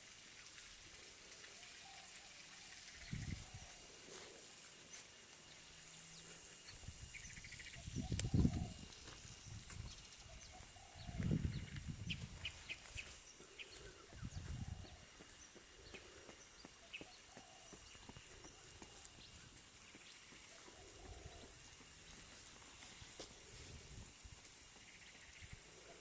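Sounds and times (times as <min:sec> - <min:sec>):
insect hiss: 0:00.0 - 0:26.0.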